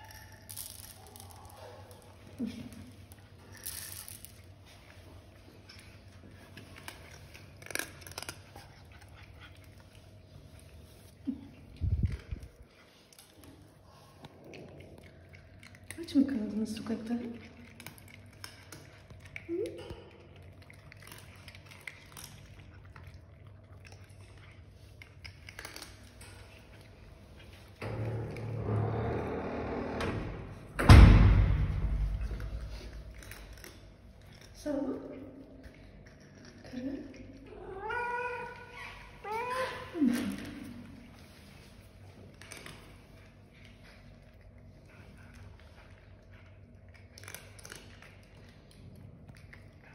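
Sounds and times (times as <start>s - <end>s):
cats crunching dry kibble: 0.0s - 28.4s, 32.1s - 49.9s
low steady hum: 0.0s - 49.9s.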